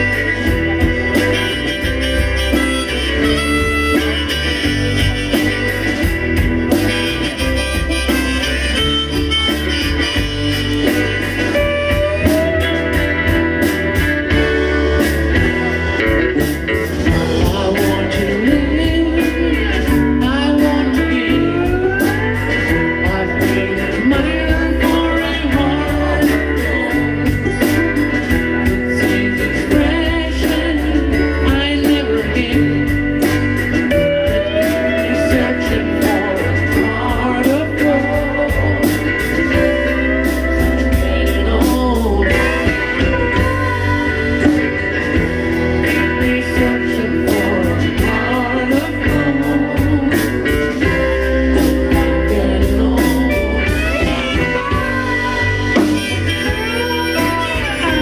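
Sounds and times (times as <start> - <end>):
drums: 0.0 - 58.0
electric bass: 0.0 - 58.0.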